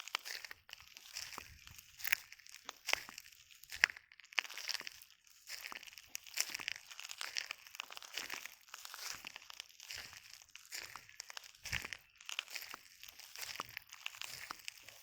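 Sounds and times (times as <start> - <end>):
footsteps crunching on shells: 0.0 - 15.0.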